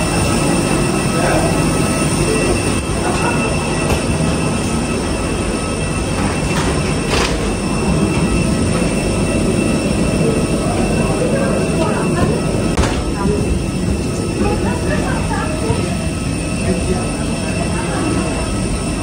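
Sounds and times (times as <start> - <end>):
aircraft and machinery whine: 0.0 - 19.0.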